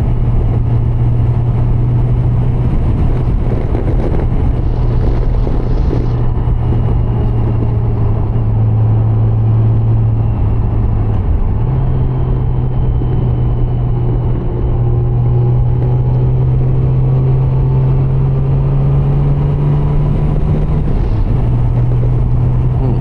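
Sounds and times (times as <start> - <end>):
motorcycle engine drone: 0.0 - 23.0
road and wind rumble: 0.0 - 23.0.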